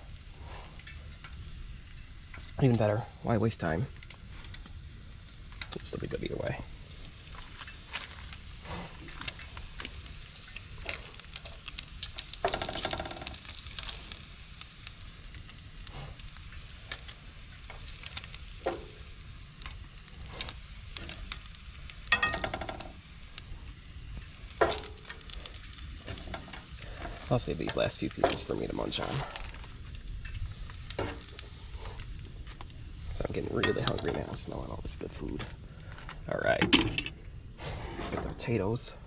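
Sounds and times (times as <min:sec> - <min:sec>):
food sizzling in a pan: 0:00.0 - 0:37.7.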